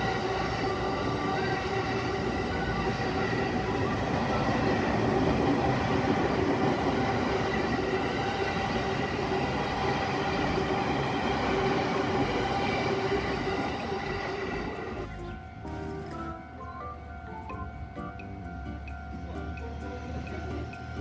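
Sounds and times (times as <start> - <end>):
steady high-pitched tones: 0.0 - 21.0
train rumbling past: 0.0 - 21.0.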